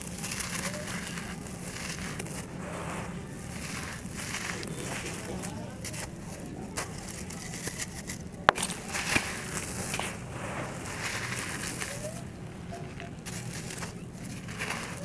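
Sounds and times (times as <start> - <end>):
grit falling onto dirt: 0.0 - 15.0.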